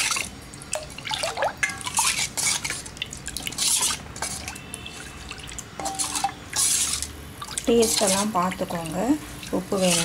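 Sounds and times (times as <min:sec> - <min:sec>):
liquid sloshing in a metal pot: 0:00.0 - 0:10.0.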